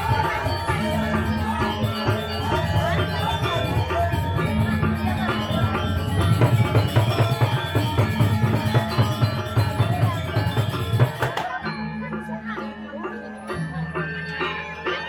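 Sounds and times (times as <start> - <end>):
gamelan metallophones: 0.0 - 15.0.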